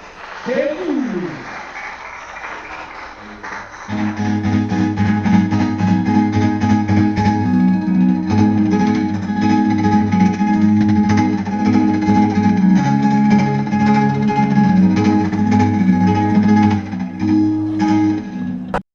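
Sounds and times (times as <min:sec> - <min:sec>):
guitar strummed: 0:03.1 - 0:18.8.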